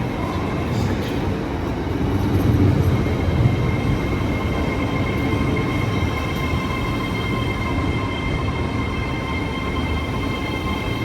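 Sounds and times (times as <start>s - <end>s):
train engine rumble: 0.0s - 11.0s.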